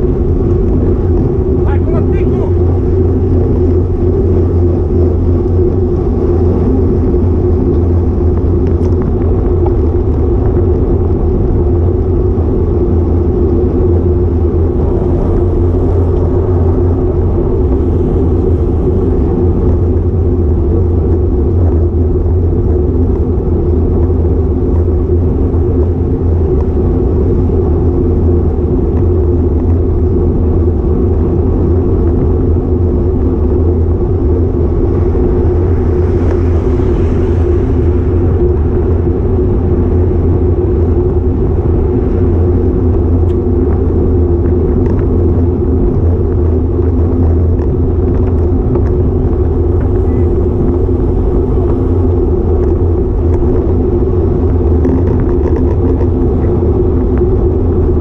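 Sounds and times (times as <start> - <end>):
wind and road noise rumble: 0.0 - 58.0.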